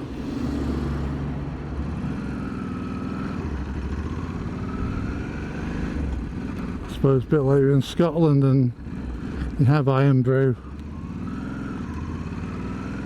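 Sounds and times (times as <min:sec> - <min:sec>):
motorcycle engine running: 0:01.8 - 0:13.0.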